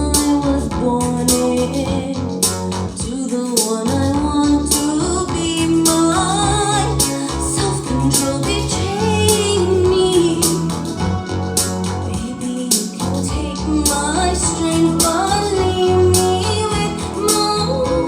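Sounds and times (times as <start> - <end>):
song with guitar and bass: 0.0 - 3.3, 3.9 - 18.0.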